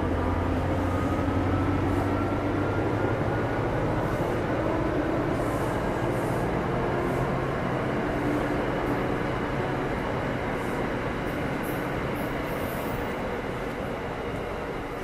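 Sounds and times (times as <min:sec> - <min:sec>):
train coaches rumbling on rails: 0:00.0 - 0:15.0.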